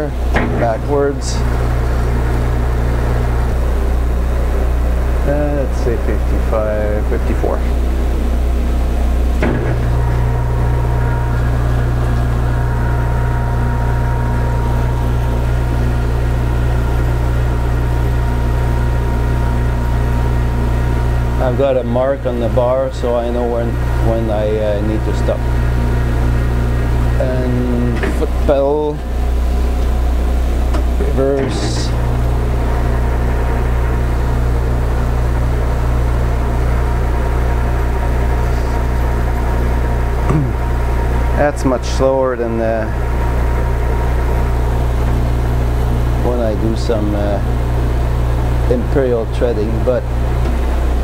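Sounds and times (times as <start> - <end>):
metal lathe motor droning: 0.0 - 51.0.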